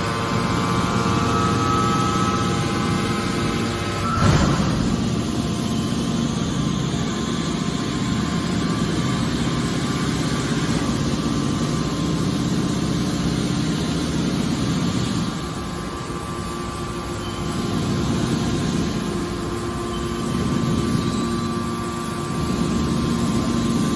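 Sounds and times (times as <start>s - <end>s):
hydraulic baler humming: 0.0s - 23.9s.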